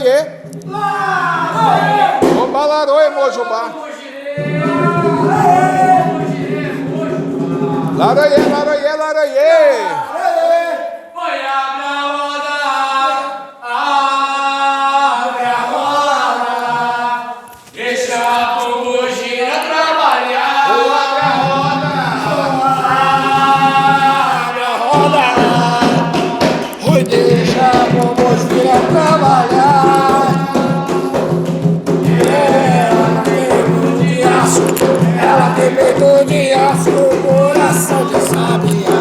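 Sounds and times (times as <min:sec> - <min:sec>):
percussion: 0:00.0 - 0:03.1, 0:04.4 - 0:09.5, 0:15.4 - 0:39.0
voices singing a chant: 0:00.0 - 0:08.6, 0:09.4 - 0:39.0.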